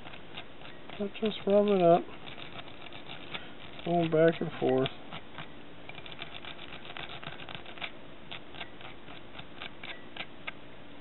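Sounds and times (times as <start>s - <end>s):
velcro scratching fur: 0.0s - 10.4s.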